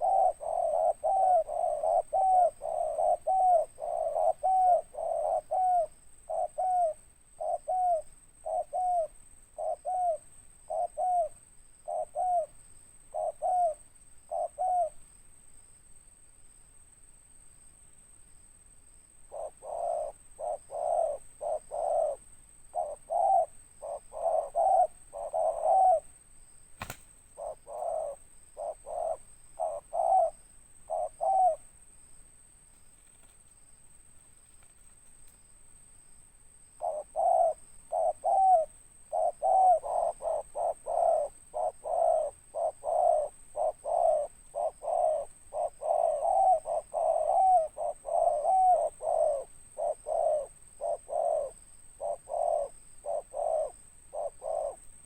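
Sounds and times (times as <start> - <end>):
dove cooing in short notes: 0.0 - 15.0, 19.3 - 26.1, 26.8 - 31.6, 36.8 - 54.8
faint high-pitched whine: 0.0 - 55.0.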